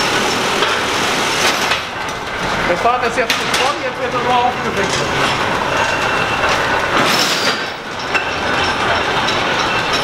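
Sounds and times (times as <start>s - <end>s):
spinning machine clatter: 1.5s - 10.0s.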